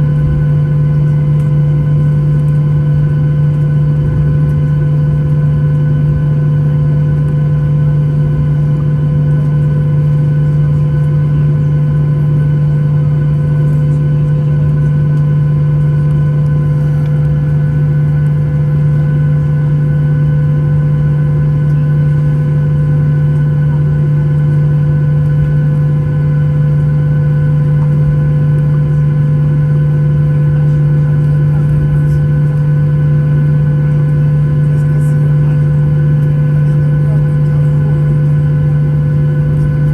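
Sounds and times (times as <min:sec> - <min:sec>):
jet engines idling drone: 0:00.0 - 0:39.9.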